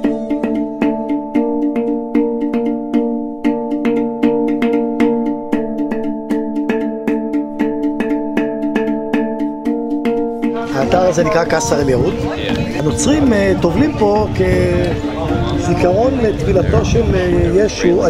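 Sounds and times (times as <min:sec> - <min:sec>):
held chords: 0:00.0 - 0:18.0
light tapping beat: 0:00.0 - 0:18.0.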